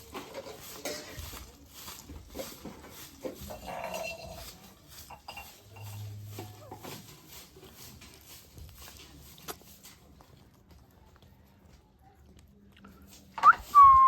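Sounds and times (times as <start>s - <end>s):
parrot calls and chatter: 0.0s - 12.0s.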